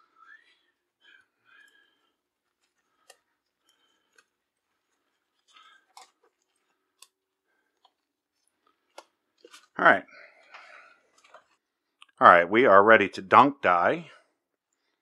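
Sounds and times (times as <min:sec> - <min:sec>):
rubber gloves rustling: 0:00.0 - 0:12.0.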